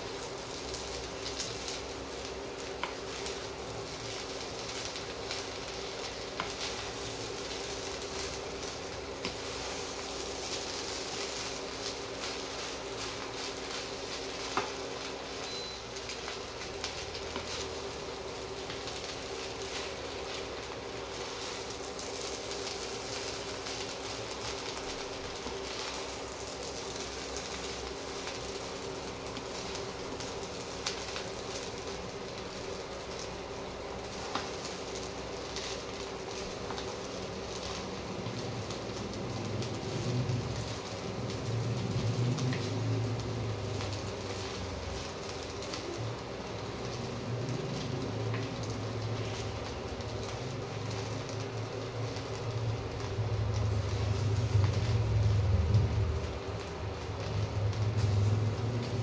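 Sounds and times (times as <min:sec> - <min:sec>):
rice sizzling in a pan: 0:00.0 - 0:59.0.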